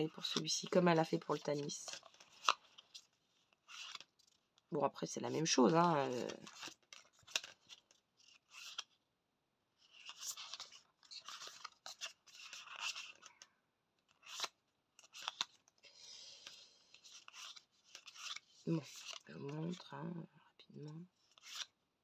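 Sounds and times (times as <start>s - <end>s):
cards sliding and rustling: 0.2s - 4.6s, 5.8s - 9.0s, 9.8s - 19.8s, 21.2s - 21.8s.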